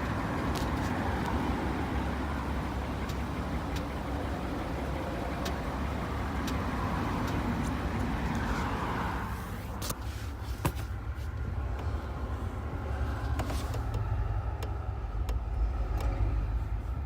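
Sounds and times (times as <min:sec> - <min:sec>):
car low rumble: 0:00.0 - 0:17.0
suspension knocking and clicking: 0:00.0 - 0:17.0.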